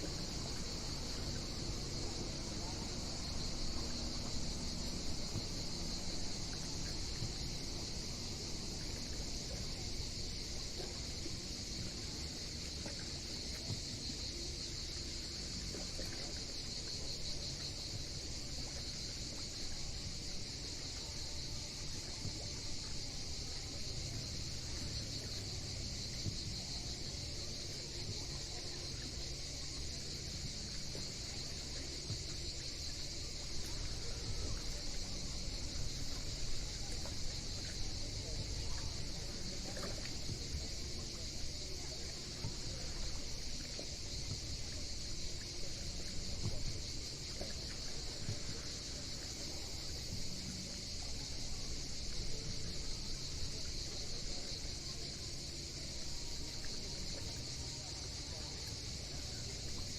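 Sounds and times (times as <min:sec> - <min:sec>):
cicadas buzzing: 0:00.0 - 0:24.2, 0:25.0 - 0:59.9.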